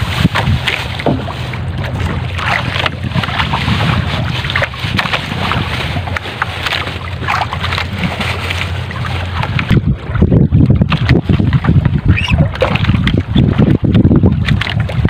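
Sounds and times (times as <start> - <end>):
water against boat hull: 0.0 - 15.0
wind gusting on microphone: 0.0 - 15.0.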